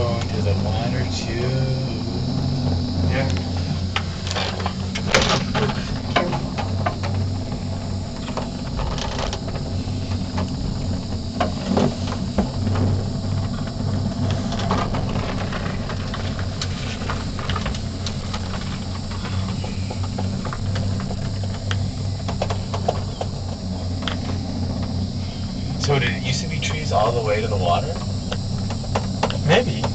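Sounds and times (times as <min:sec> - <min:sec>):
cable car rumble and hiss: 0:00.0 - 0:29.9.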